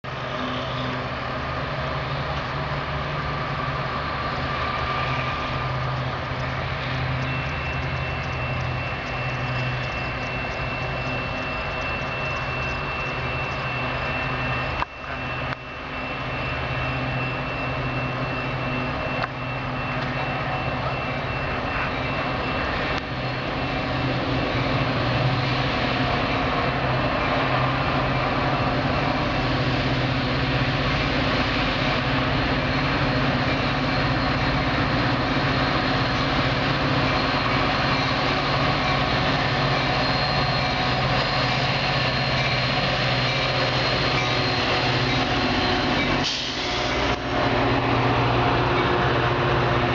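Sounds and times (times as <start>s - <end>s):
diesel train rumbling: 0.0s - 49.9s.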